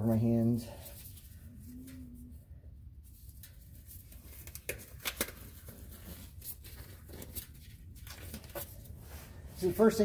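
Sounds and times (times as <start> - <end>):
rustling of glove material: 0.1 - 10.0.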